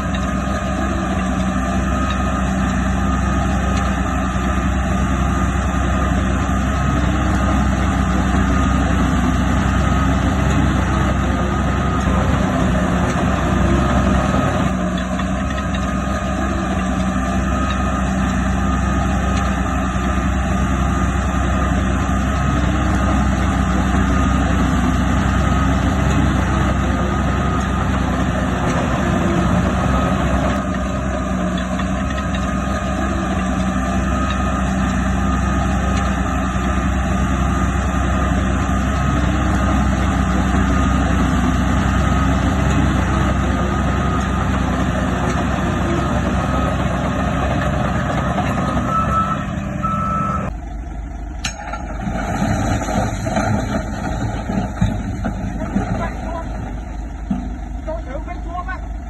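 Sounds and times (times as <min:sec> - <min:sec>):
diesel earthmoving machinery running: 0:00.0 - 0:59.0
reversing alarm beeping: 0:00.4 - 0:14.8, 0:16.0 - 0:50.6.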